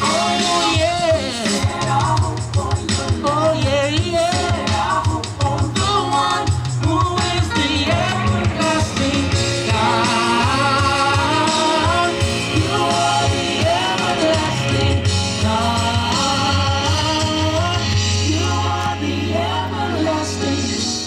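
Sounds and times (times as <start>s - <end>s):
worship band playing: 0.0s - 21.0s.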